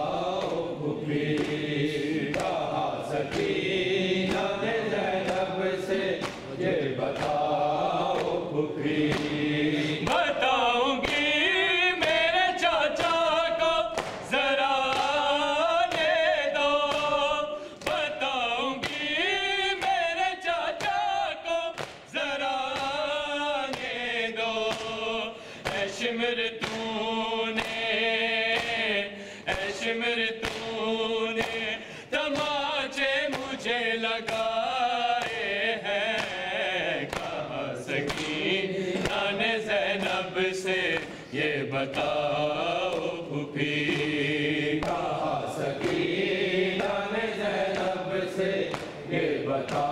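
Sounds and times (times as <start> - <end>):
men chanting a lament: 0.0 - 49.9.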